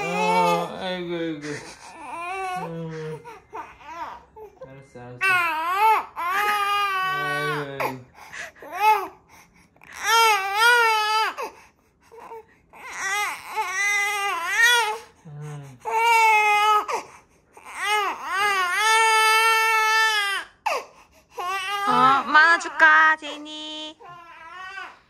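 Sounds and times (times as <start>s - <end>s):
baby crying: 0.0s - 4.6s, 5.2s - 9.2s, 9.8s - 15.1s, 15.8s - 23.2s, 24.0s - 25.0s.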